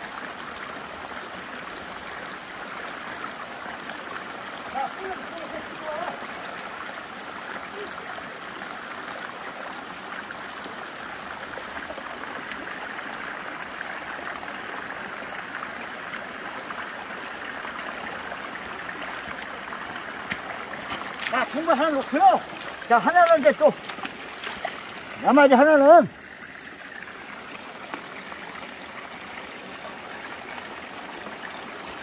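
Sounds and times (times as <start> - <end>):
stream running over stones: 0.0 - 32.0.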